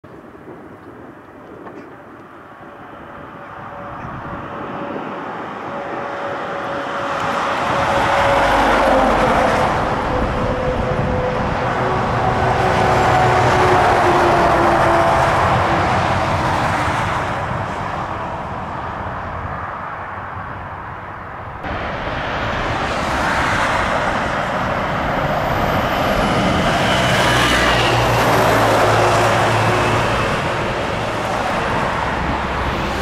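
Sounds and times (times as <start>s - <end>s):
truck engine and tyre noise: 0.0s - 33.0s.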